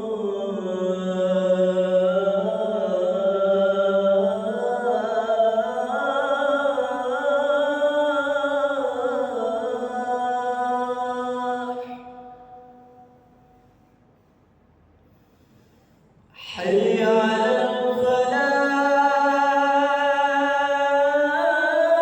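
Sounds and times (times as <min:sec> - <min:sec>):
man chanting: 0:00.0 - 0:12.3, 0:16.4 - 0:22.0.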